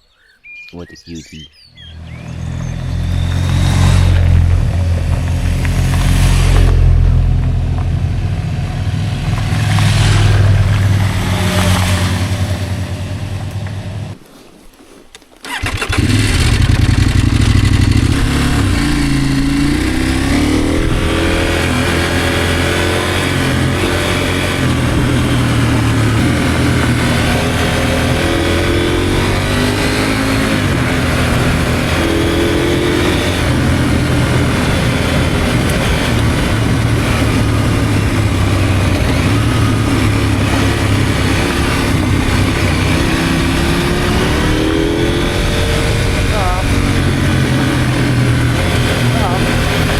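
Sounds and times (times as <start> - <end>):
wind and road noise: 1.5 - 49.9
motorcycle engine revving: 1.7 - 14.2, 15.4 - 49.9.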